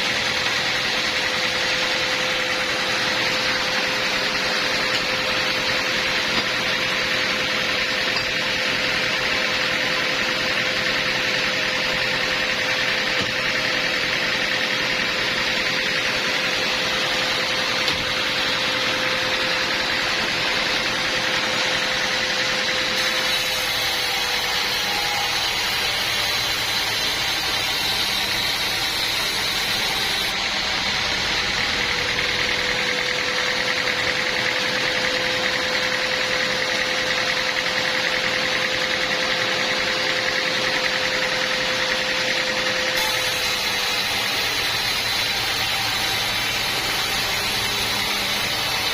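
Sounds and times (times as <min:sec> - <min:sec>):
portable sawmill running: 0:00.0 - 0:48.9.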